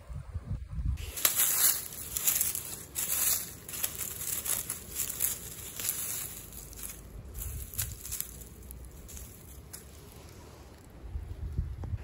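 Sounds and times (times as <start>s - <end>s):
dry leaves crackling and rustling: 1.0s - 11.6s.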